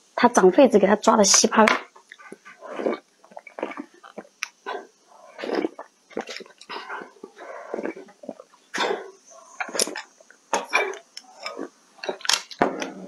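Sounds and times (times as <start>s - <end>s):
person slurping soup: 1.7s - 13.0s.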